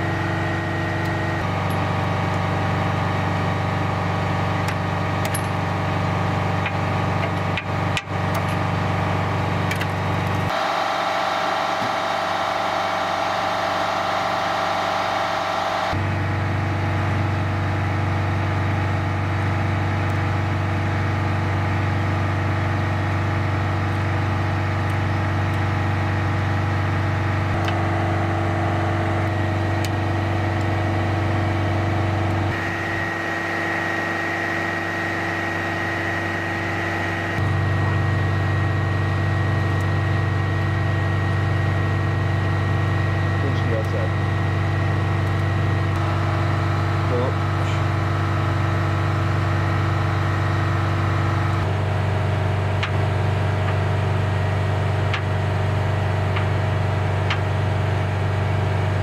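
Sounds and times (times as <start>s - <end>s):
truck diesel engine idling: 0.0s - 39.6s, 40.2s - 58.9s.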